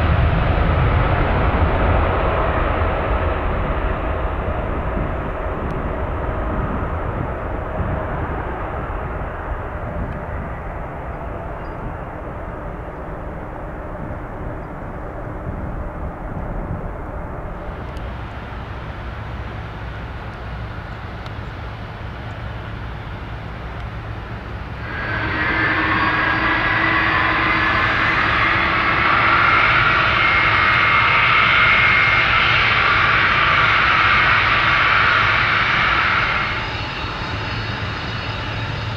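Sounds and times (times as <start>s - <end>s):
high engine whine: 0.0s - 38.9s
jet engines rumbling: 0.0s - 38.9s.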